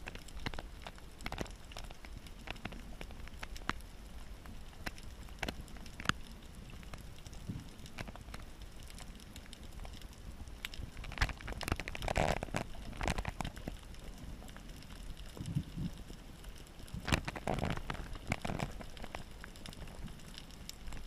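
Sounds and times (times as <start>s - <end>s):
low rumble of water: 0.0s - 21.0s
underwater clicks and crackles: 0.0s - 21.0s.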